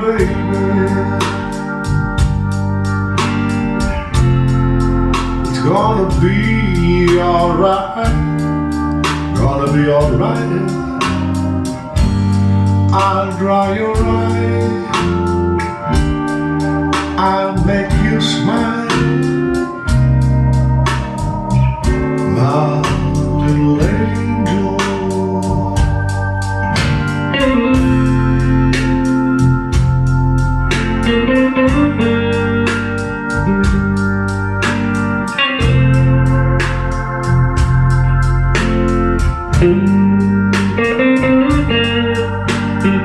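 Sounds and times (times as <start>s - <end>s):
bass line: 0.0s - 43.0s
keyboard chords: 0.0s - 43.0s
pitch-bending melody: 0.0s - 43.0s
steady beat: 0.0s - 43.0s.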